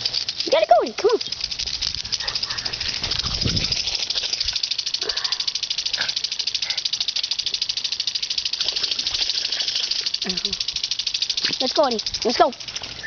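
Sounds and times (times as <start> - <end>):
lawn sprinkler spraying: 0.0 - 13.0.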